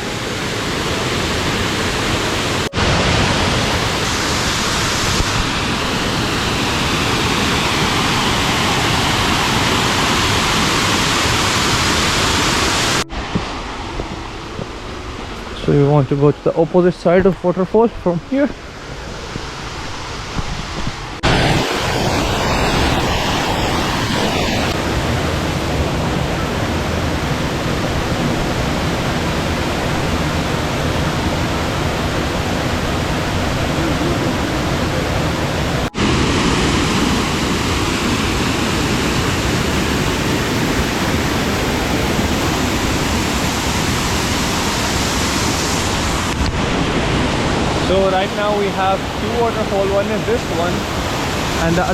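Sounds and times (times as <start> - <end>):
waterfall rushing: 0.0 - 17.2, 18.5 - 51.9.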